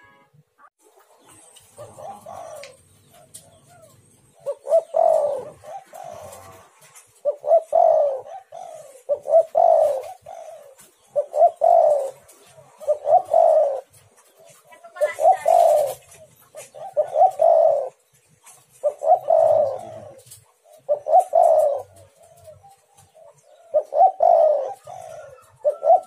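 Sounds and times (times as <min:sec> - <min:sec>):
dove cooing: 0:01.0 - 0:26.0.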